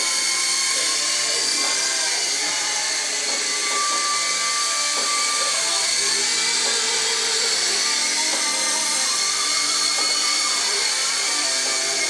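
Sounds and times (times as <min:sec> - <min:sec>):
toy helicopter motor whining: 0:00.0 - 0:12.0.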